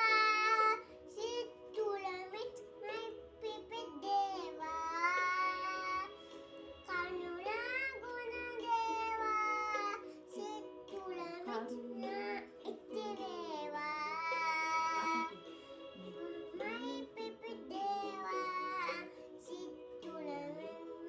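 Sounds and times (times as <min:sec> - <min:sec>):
girl singing unaccompanied: 0:00.0 - 0:06.2, 0:06.8 - 0:21.0.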